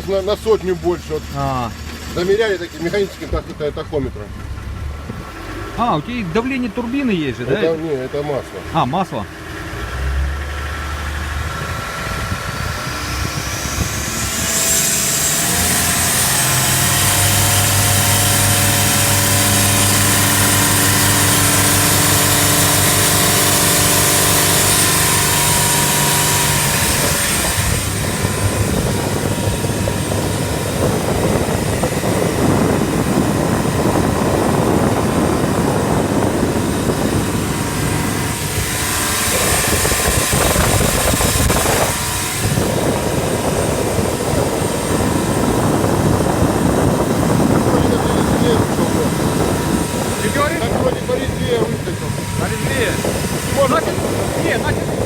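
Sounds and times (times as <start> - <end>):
boat engine accelerating: 0.0 - 55.0
rush of wind and water: 5.0 - 55.0.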